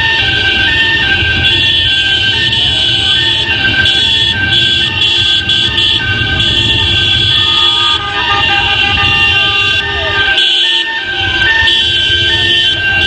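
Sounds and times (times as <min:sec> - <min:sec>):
car horns blasting: 0:00.0 - 0:13.0
motorcade rumble: 0:00.0 - 0:13.0
street noise: 0:00.0 - 0:13.0.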